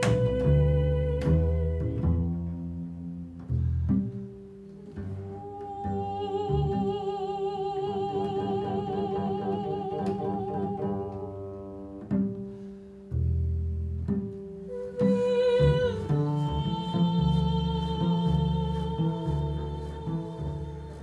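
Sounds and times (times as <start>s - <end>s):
plucked double bass notes: 0.0s - 21.0s.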